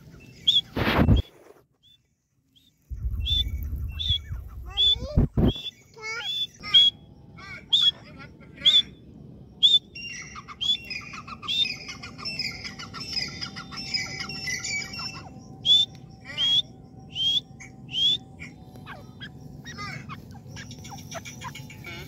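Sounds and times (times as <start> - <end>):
francolin calls: 2.6 - 22.0
chatter of high bird calls: 3.0 - 22.0.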